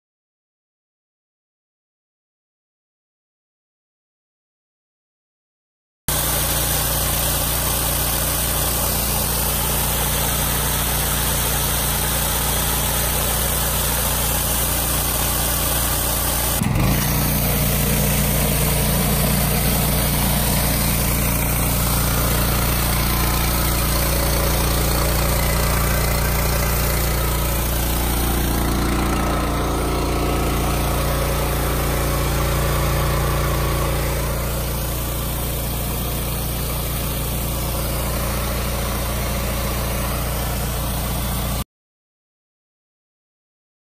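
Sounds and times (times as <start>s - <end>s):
pressure washer engine running: 6.1s - 41.6s
water spray hissing: 6.1s - 41.6s.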